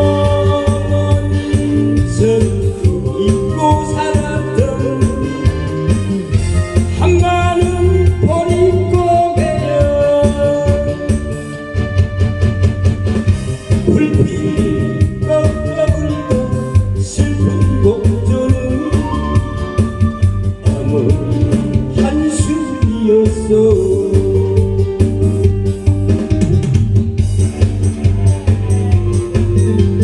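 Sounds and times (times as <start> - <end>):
trot song with drum beat: 0.0 - 30.0.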